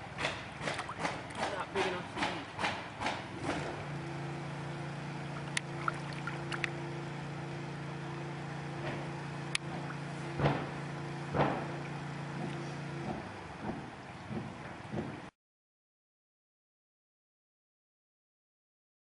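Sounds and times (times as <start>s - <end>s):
engine hum: 0.0s - 15.4s.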